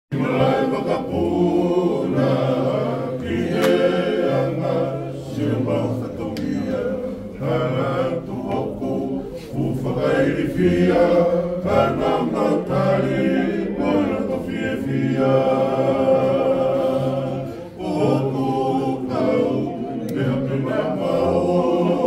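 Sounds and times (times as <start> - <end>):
men singing in harmony: 0.1 - 22.0.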